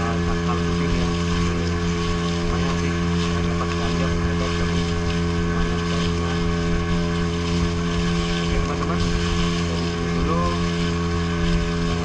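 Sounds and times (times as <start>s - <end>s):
boat engine running: 0.0s - 12.0s
water and wind rushing: 0.0s - 12.0s.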